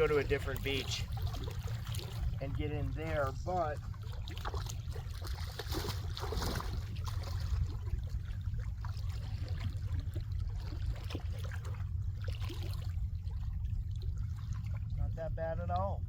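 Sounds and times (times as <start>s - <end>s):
low rumble: 0.0s - 16.0s
water splashing and lapping: 0.0s - 16.0s.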